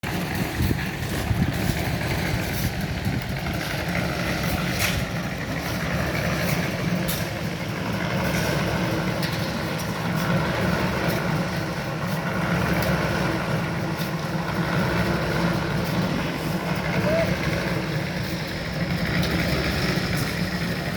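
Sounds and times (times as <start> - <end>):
engine droning: 0.0 - 20.9.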